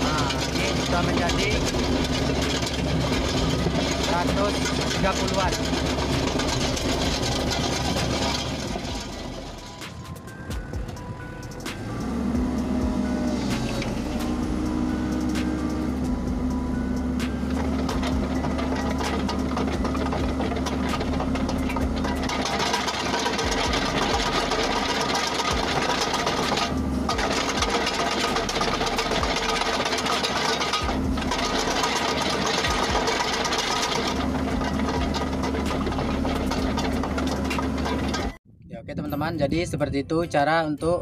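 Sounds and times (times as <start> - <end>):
excavator diesel engine running: 0.0 - 38.4
steel track links clattering: 0.0 - 38.4.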